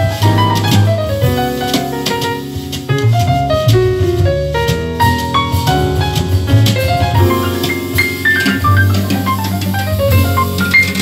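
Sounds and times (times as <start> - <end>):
instrumental jazz through speakers: 0.0 - 11.0
piano scale run: 0.0 - 11.0
steady bass: 0.0 - 11.0.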